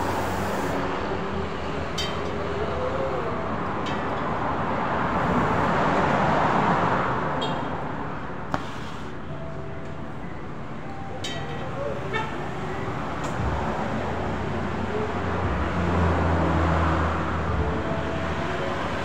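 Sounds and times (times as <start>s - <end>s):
rushing traffic: 0.0s - 19.0s.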